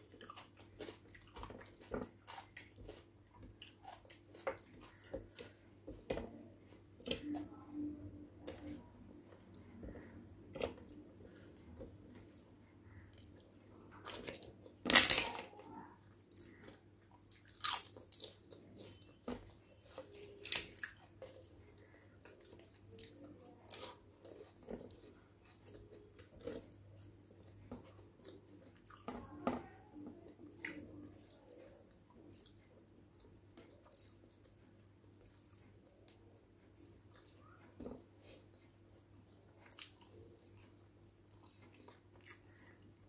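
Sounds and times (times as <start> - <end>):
person chewing: 0.0 - 7.4, 8.4 - 43.0.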